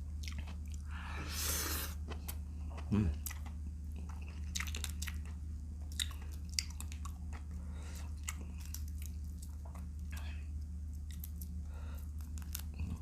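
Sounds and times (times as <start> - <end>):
chewing shrimp with crunches: 0.0 - 0.9, 2.0 - 13.0.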